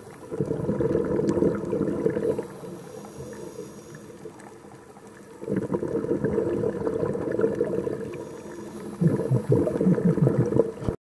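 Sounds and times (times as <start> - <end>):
underwater bubbles gurgling: 0.0 - 11.0.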